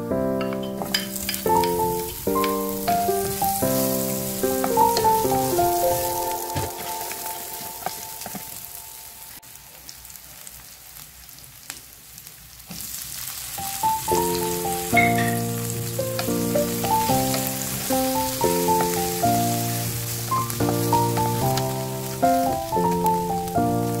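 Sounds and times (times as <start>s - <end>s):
background music with melody: 0.0s - 9.4s, 13.6s - 24.0s
vegetables sizzling in frying pan: 0.4s - 24.0s.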